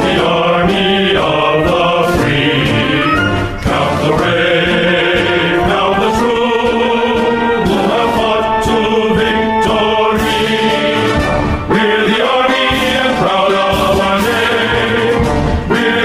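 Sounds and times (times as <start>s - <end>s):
chanted choral vocals: 0.0s - 16.0s
sustained instrumental tones: 0.0s - 16.0s.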